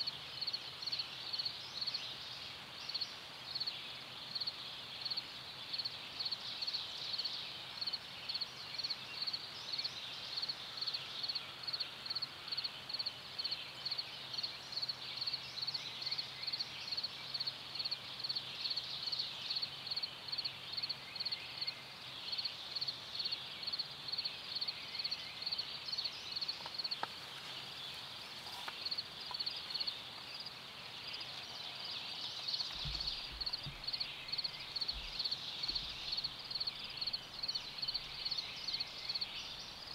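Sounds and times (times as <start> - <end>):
faint outdoor hiss: 0.0 - 39.9.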